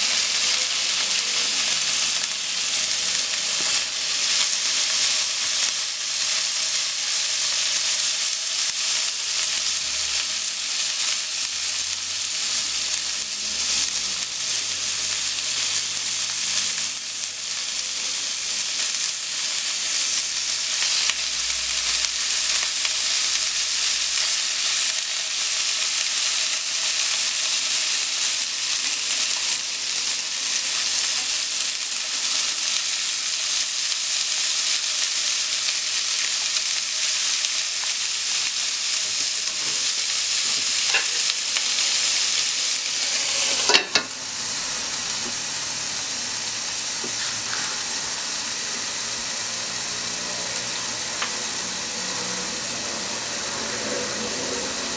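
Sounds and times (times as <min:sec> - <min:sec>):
food sizzling in frying pan: 0:00.0 - 0:54.9.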